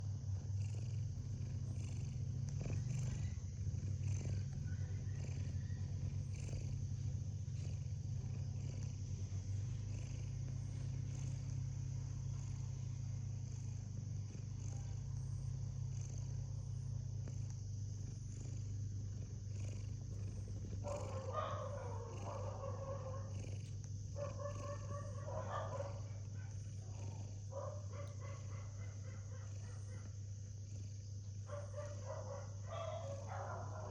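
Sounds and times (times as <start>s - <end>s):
cat snoring: 0.0s - 33.9s.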